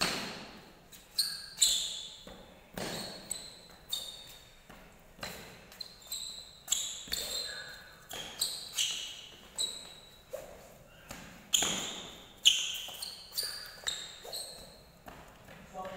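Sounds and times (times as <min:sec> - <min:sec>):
sports shoes squeaking: 0:00.0 - 0:15.9.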